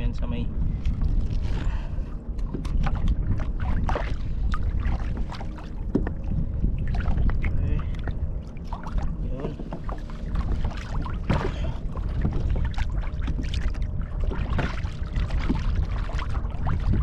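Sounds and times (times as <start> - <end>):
low wind rumble: 0.0 - 17.0
water lapping against hull: 0.0 - 17.0.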